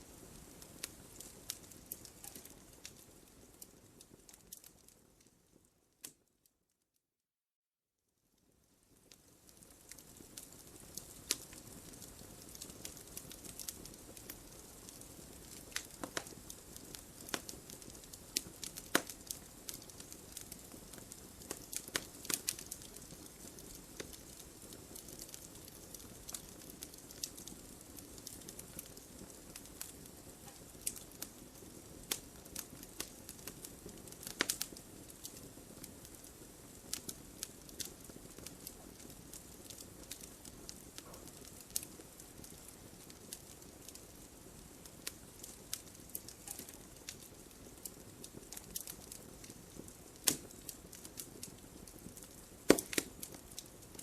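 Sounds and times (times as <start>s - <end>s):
fireplace fire crackling: 0.0s - 6.6s, 8.2s - 54.0s.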